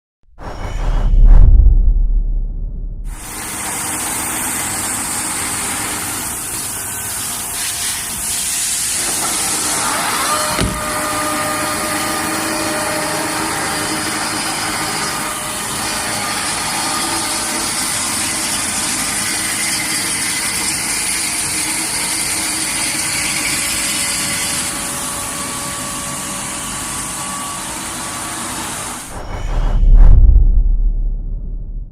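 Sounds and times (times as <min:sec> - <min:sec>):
lathe mechanical hum and hiss: 0:03.2 - 0:29.1.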